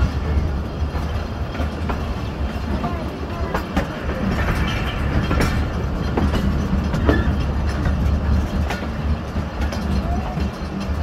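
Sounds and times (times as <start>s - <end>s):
train coaches rumbling: 0.0s - 11.0s
wheel clacks over rail joints: 0.0s - 11.0s.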